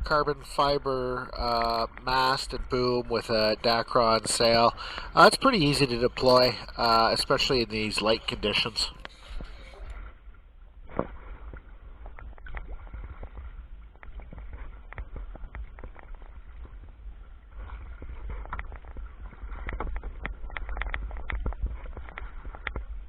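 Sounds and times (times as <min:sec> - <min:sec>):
steady low rumble: 0:00.0 - 0:23.0
water slapping against kayak hull: 0:00.0 - 0:23.0.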